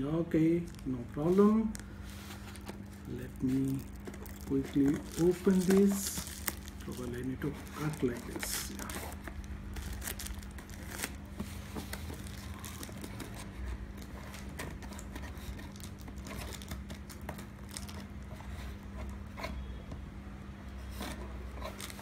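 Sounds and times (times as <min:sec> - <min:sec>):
tape and cardboard crinkling: 0:00.5 - 0:19.6, 0:21.0 - 0:22.0.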